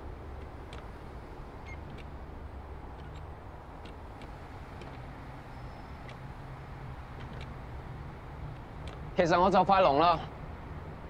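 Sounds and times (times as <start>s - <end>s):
distant city traffic hum: 0.0s - 11.0s.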